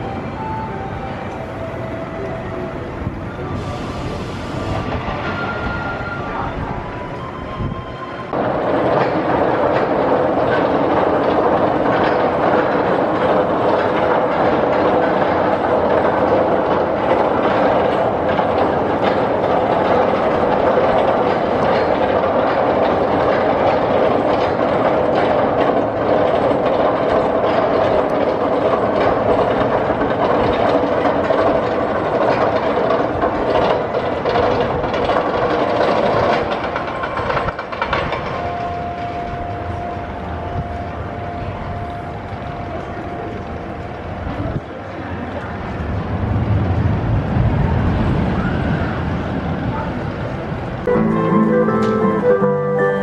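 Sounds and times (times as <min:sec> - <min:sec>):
roller coaster wheels on rails: 0:00.0 - 0:53.0.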